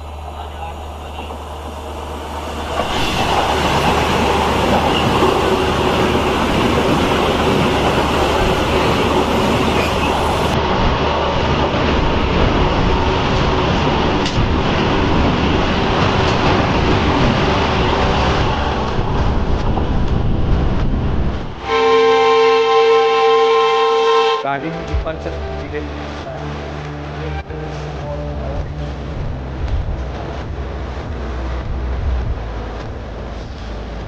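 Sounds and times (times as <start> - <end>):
train passing at speed: 0.0 - 34.0
wheels rushing on rail: 0.0 - 34.0.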